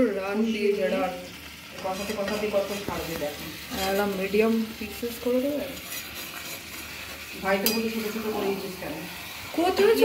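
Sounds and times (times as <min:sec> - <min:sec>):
meat sizzling in pan: 0:00.0 - 0:10.0
spatula scraping metal pan: 0:01.8 - 0:10.0.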